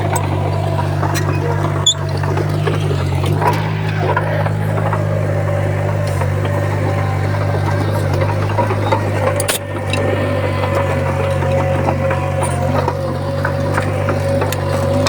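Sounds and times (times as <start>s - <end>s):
bulldozer diesel engine droning: 0.0s - 15.0s.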